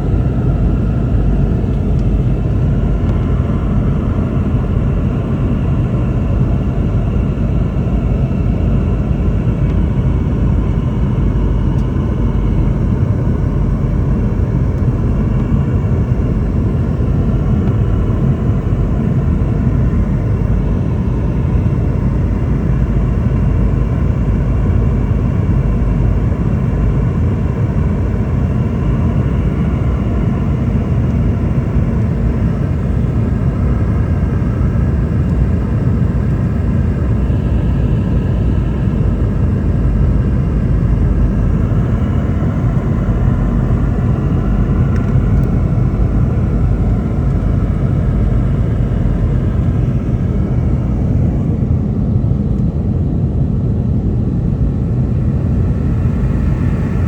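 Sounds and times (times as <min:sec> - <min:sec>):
airplane cabin engine rumble: 0:00.0 - 0:57.0
faint engine hum: 0:00.0 - 0:57.0.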